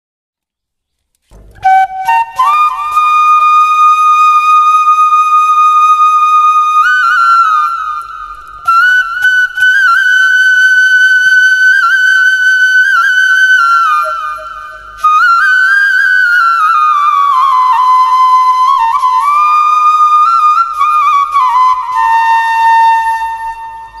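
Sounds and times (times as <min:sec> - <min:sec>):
flute playing slow melody: 0:01.4 - 0:24.0.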